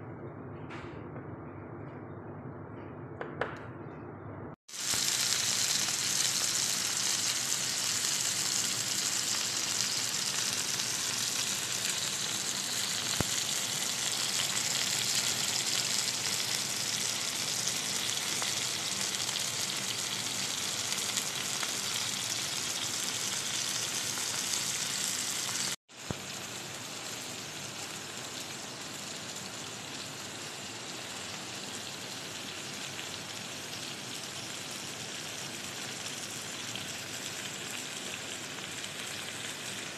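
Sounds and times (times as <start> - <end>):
chicken sizzling in hot oil: 4.7 - 39.9.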